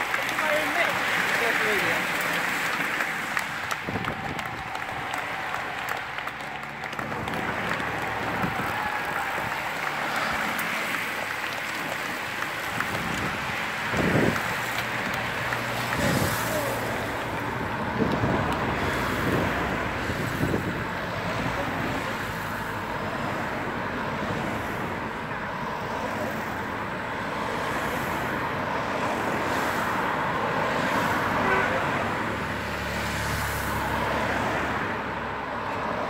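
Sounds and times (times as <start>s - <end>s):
cars passing by: 0.0s - 36.0s.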